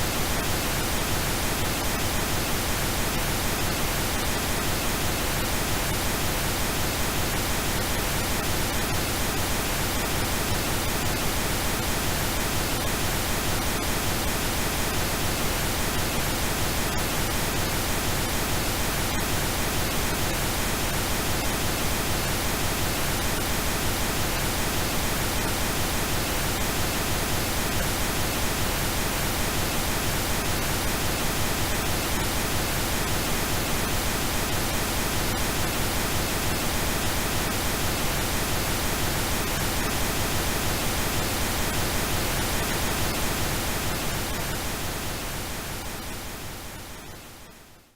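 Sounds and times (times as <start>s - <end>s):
pink noise hiss: 0.0s - 47.9s.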